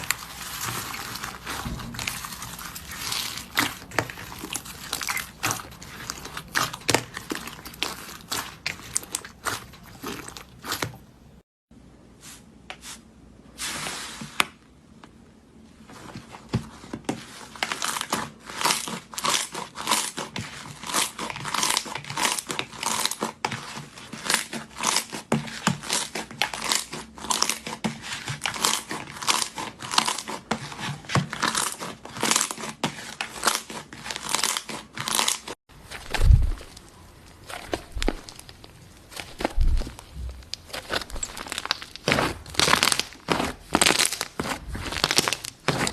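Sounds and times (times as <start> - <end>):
slime crackling and popping: 0.0 - 11.1, 17.6 - 45.9.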